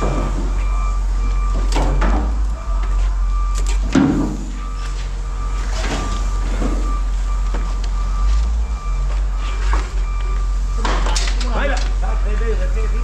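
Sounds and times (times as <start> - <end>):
reversing alarm beeping: 0.0 - 13.0.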